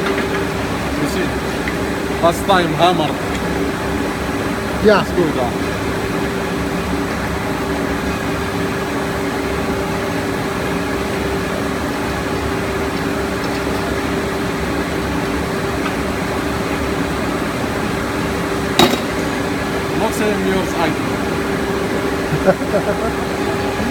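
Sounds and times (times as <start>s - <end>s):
extrusion machine humming: 0.0s - 23.9s.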